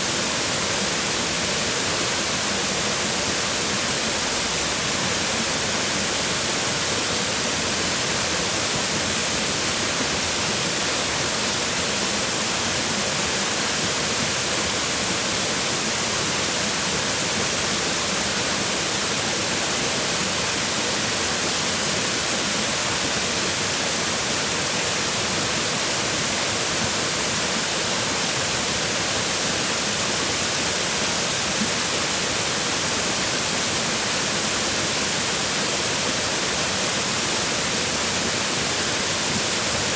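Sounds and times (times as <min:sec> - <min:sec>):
waterfall splashing on rocks: 0:00.0 - 0:39.9.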